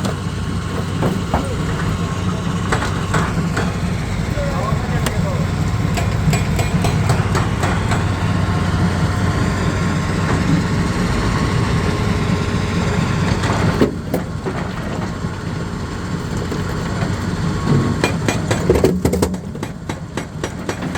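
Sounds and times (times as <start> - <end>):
rock crusher rumbling: 0.0 - 20.9.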